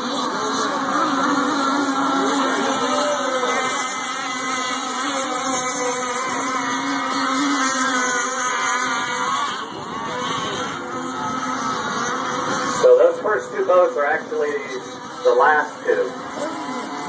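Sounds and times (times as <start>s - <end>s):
racing boat engines: 0.0s - 17.0s.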